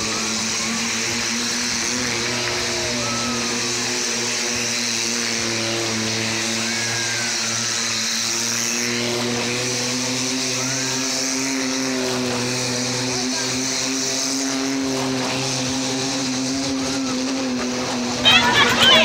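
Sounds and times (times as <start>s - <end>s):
car engine humming steadily: 0.0s - 19.0s.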